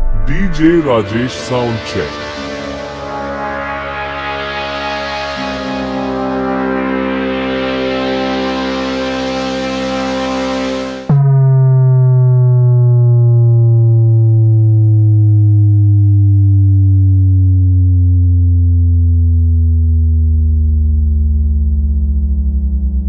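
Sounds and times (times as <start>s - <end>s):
synthesized bass tone gliding down: 0.0s - 23.0s.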